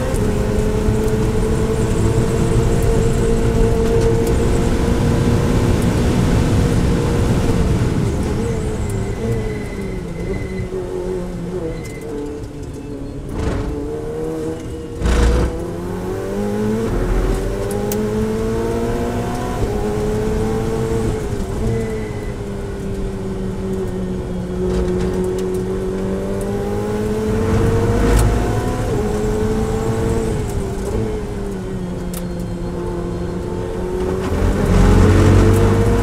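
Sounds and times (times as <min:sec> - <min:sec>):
race car engine accelerating: 0:00.0 - 0:36.0.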